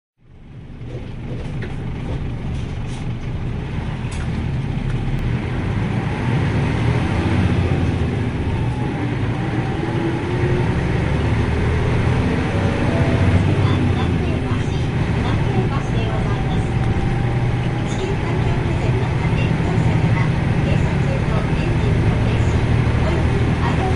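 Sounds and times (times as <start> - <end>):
bus diesel engine and road rumble: 0.2 - 23.9.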